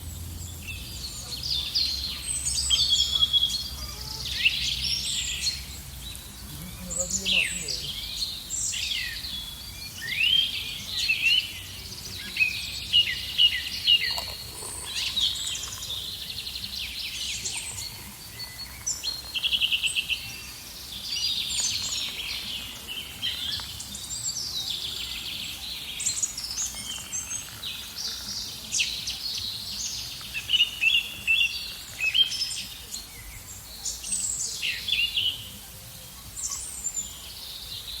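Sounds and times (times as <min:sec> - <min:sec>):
songbirds singing and chirping: 0:00.0 - 0:38.0.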